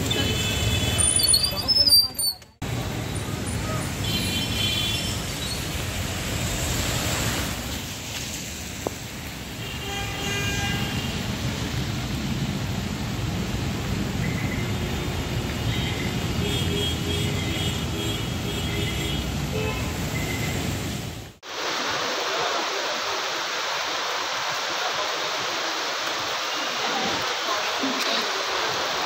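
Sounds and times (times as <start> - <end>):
heavy rain: 2.6 - 29.0
water flowing over road: 2.7 - 29.0.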